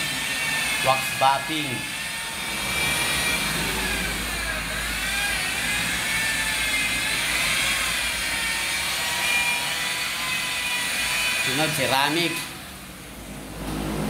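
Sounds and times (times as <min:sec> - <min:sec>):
electric tool motor whining: 0:00.0 - 0:12.6.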